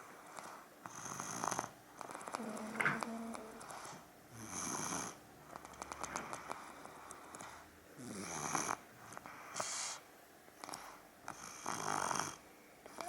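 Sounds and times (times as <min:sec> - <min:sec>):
toddler snoring: 0:00.0 - 0:10.0, 0:10.6 - 0:13.0.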